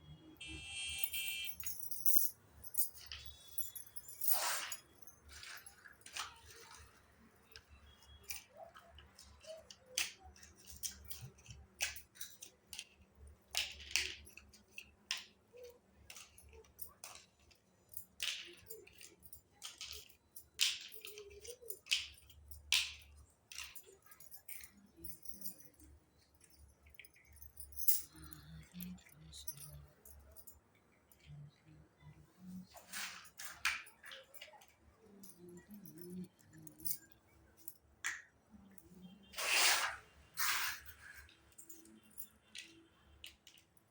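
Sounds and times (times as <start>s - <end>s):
toy kitchen pieces clicking and clinking: 0.0s - 43.9s.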